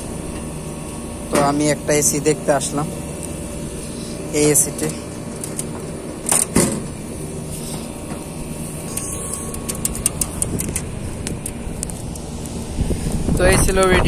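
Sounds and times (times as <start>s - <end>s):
air conditioner units humming: 0.0s - 14.0s.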